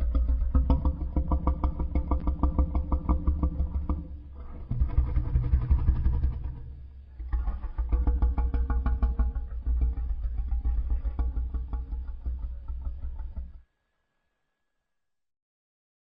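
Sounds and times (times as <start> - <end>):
low pulsing monster growl: 0.0 - 13.6.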